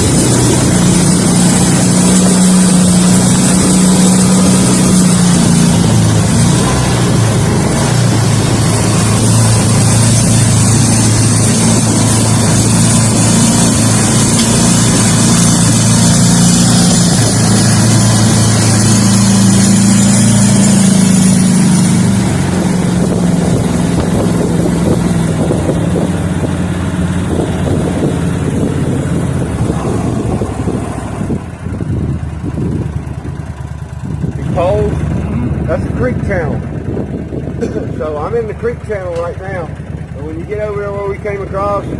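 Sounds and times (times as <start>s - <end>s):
rushing wind and water: 0.0s - 38.7s
boat engine running: 0.0s - 41.9s.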